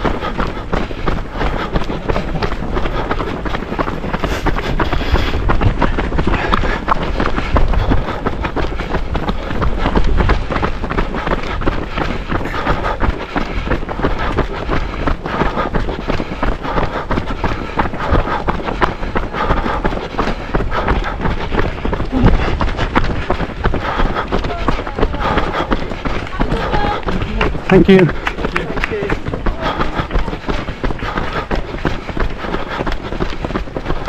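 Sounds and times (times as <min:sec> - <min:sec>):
running footsteps on road: 0:00.0 - 0:34.0
wind buffeting microphone: 0:00.0 - 0:34.0.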